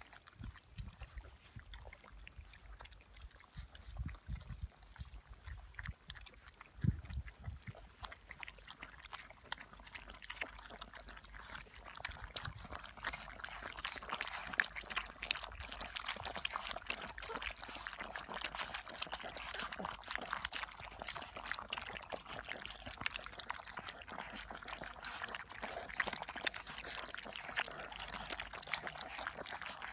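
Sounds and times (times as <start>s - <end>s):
puppies lapping wet food: 0.0s - 29.9s.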